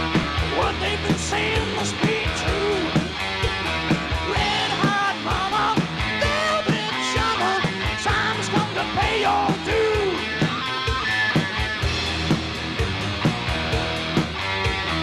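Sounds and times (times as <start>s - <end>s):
electric guitar bending notes: 0.0s - 15.0s
steady drum beat: 0.0s - 15.0s.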